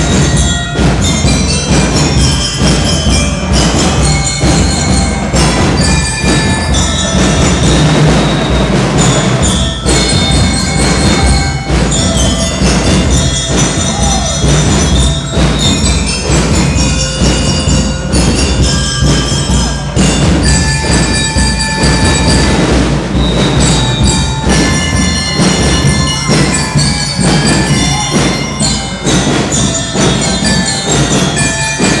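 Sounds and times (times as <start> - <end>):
bell-like melody: 0.0 - 32.0
steady drumbeat: 0.0 - 32.0.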